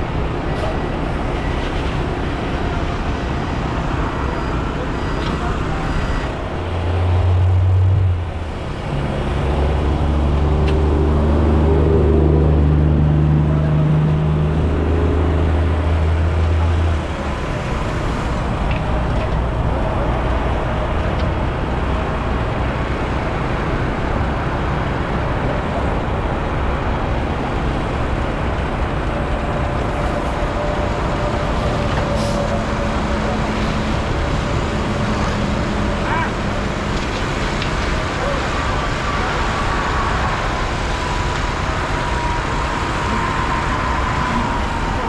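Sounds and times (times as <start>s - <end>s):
steady engine rumble: 0.0s - 45.0s
truck engine drone: 0.0s - 45.0s.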